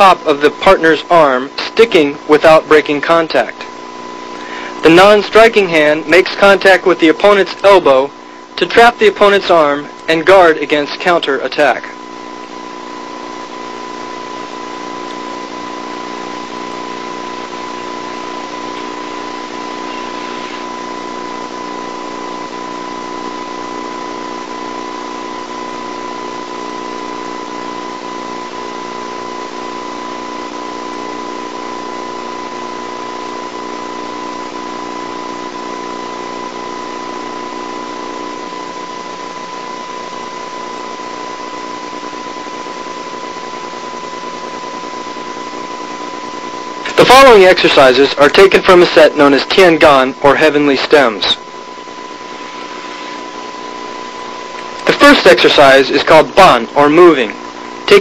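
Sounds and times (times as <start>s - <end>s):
constant high whine: 0.0s - 58.0s
low electrical hum: 0.0s - 58.0s
tape hiss: 0.0s - 58.0s.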